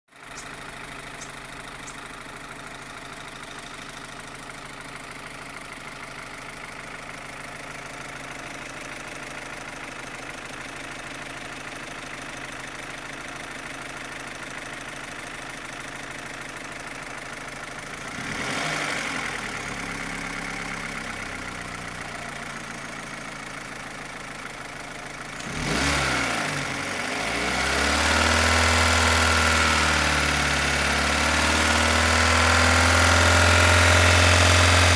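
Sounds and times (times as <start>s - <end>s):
car engine idling and revving: 0.2s - 34.9s
loud engine ticking: 0.2s - 34.9s.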